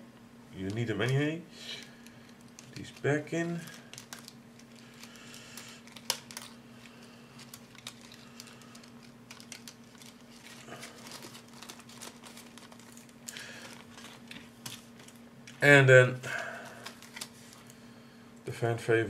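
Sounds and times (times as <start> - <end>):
faint steady hum: 0.0 - 19.0
plastic bag crinkling: 1.8 - 15.6, 16.4 - 17.8.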